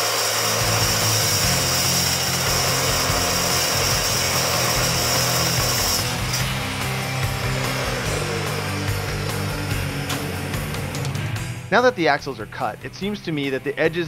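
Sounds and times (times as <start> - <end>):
chop saw grinding steel: 0.0 - 11.5
motor hum: 0.0 - 11.7.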